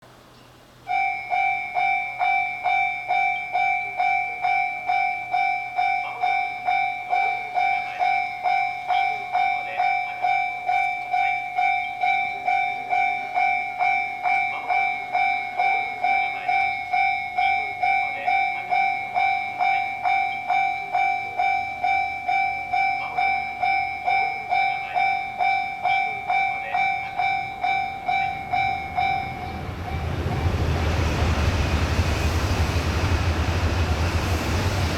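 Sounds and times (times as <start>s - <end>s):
electronic level crossing bell ringing: 0.9s - 32.0s.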